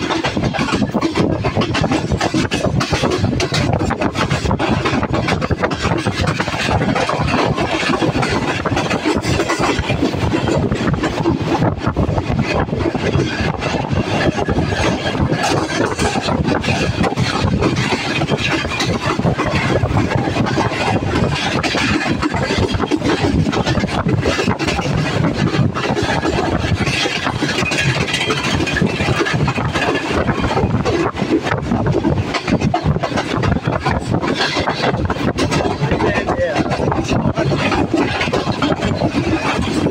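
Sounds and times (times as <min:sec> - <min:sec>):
train rumbling and clattering: 0:00.0 - 0:39.9.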